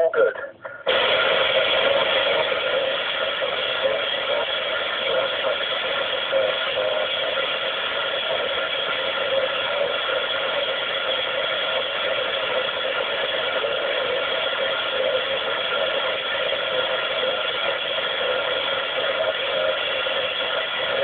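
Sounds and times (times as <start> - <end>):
faint steady tones: 0.0 - 21.0
radio static: 0.0 - 21.0.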